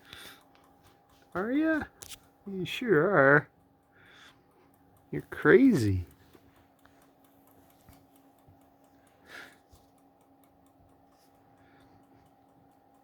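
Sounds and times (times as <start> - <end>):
faint steady hum: 0.0 - 13.0
kitchen timer ticking: 0.0 - 13.0.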